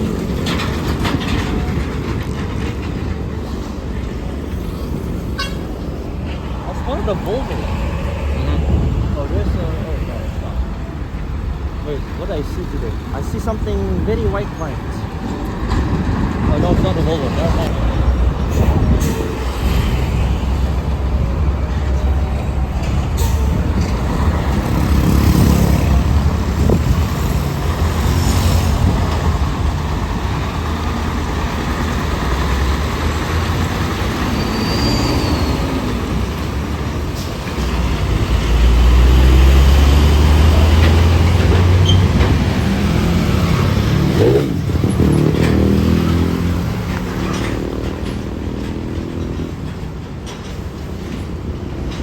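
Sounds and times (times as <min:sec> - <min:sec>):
diesel engines rumbling past: 0:00.0 - 0:52.0
heavy road traffic passing: 0:00.0 - 0:52.0.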